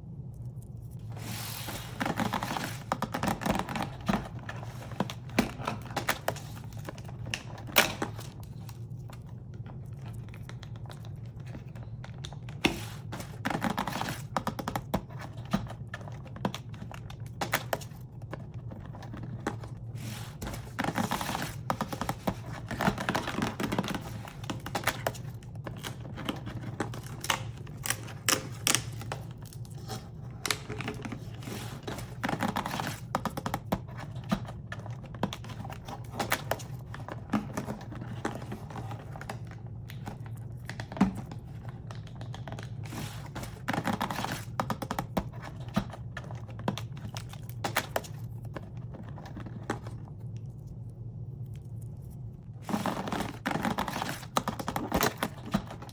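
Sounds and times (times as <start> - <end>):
packaging crinkling and tearing: 0.3 - 55.9.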